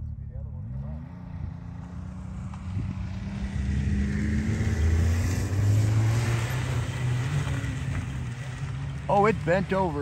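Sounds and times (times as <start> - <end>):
snowmobile engine revving: 0.4 - 10.0.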